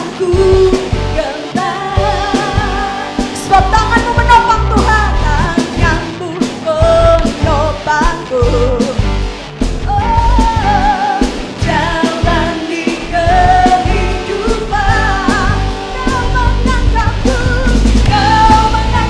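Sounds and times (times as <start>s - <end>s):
worship song with sung vocals: 0.0s - 9.0s, 9.9s - 19.0s.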